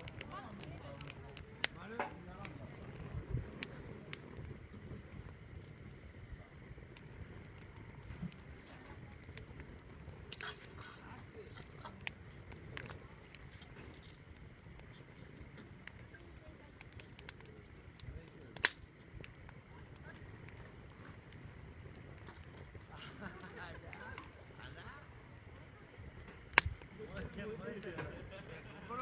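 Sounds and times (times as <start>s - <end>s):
bonfire crackling: 0.0s - 29.0s
low rumble of burning fire: 0.0s - 29.0s.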